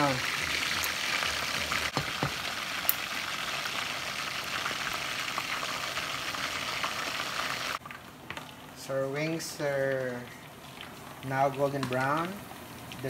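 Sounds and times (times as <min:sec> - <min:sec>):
deep-frying oil sizzling: 0:00.0 - 0:13.0
sharp oil crackles: 0:00.0 - 0:13.0.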